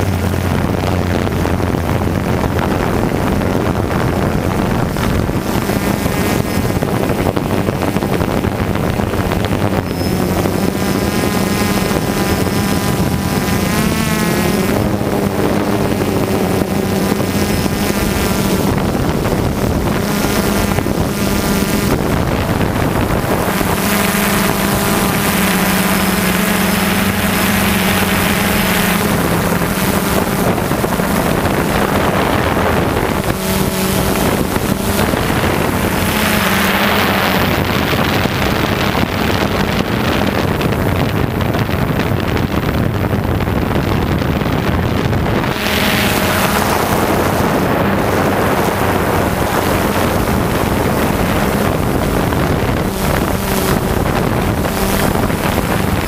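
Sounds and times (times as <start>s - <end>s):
drone propellers buzzing: 0.0s - 56.0s
wind on microphone: 0.0s - 56.0s.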